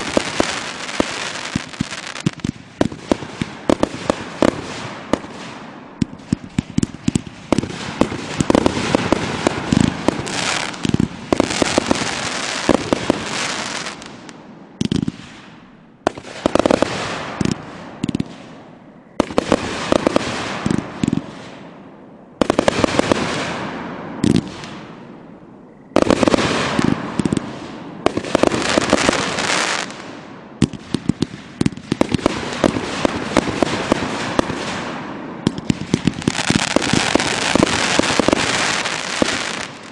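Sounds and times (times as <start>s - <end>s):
fireworks crackling: 0.0s - 18.5s, 19.2s - 21.7s, 22.4s - 24.9s, 26.0s - 39.9s
fireworks popping and banging: 0.0s - 18.5s, 19.2s - 21.7s, 22.4s - 24.9s, 26.0s - 39.9s.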